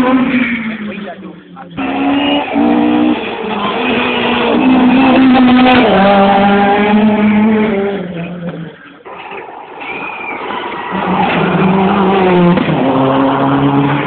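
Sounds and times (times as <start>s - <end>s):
rally car engine passing: 0.0s - 14.0s.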